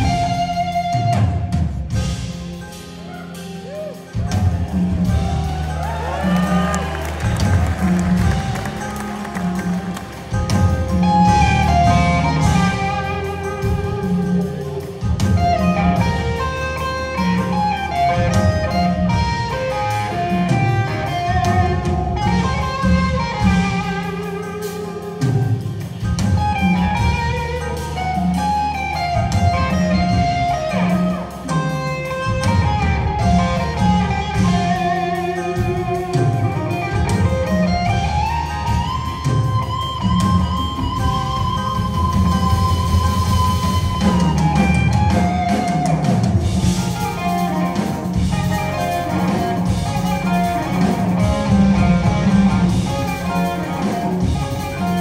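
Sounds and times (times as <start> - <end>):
electric guitar lead: 0.0 - 55.0
jazz fusion band playing: 0.0 - 55.0.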